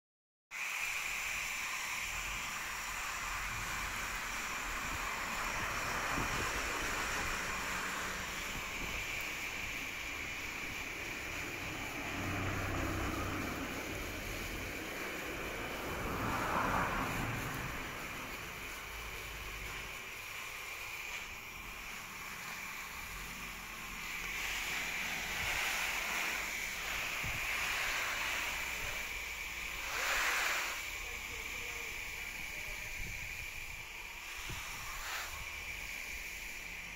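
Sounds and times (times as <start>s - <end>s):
hose water spraying on plants: 0.5s - 36.9s.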